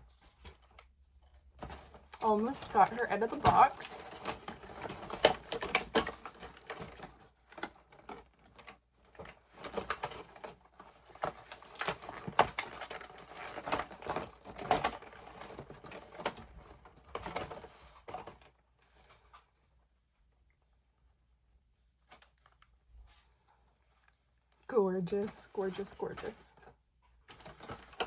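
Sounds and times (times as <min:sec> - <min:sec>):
packaging crinkling rustles: 0:00.0 - 0:19.8, 0:25.2 - 0:28.0.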